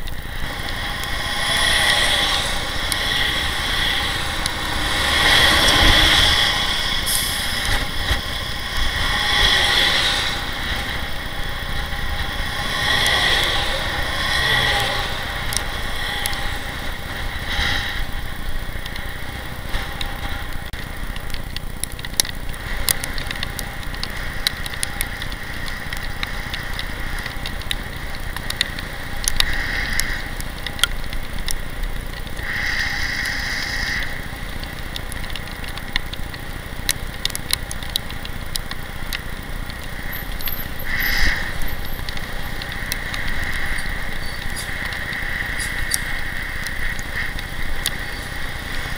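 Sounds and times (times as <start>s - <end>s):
bicycle clicks and rattles: 0.0s - 48.9s
road noise: 0.0s - 48.9s
wind rumble on microphone: 0.0s - 48.9s.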